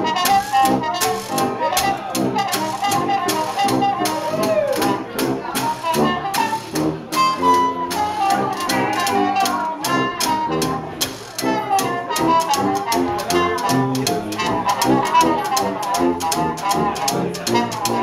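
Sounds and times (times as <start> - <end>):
trumpet lead: 0.0 - 18.0
tuba bass line: 0.0 - 18.0
washboard rhythm: 0.0 - 18.0.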